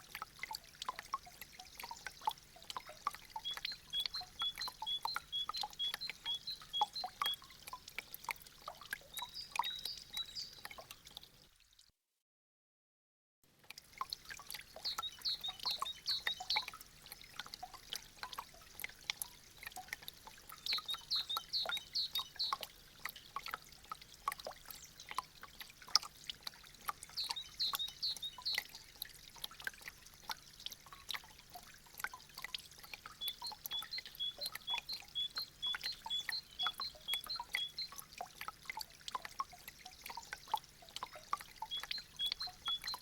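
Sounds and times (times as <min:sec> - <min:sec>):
meltwater dripping from icicles: 0:00.0 - 0:11.9, 0:13.5 - 0:43.0.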